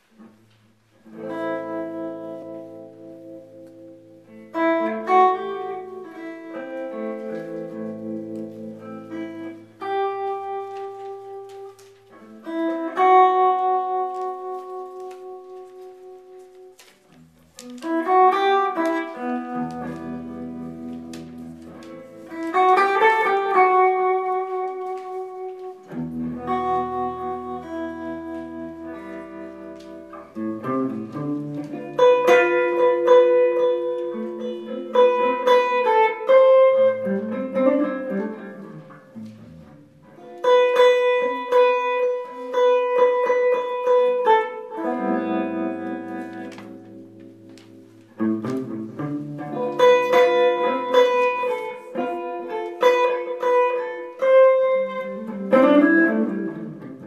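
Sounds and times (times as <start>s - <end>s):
clean electric guitar: 0.0s - 57.0s.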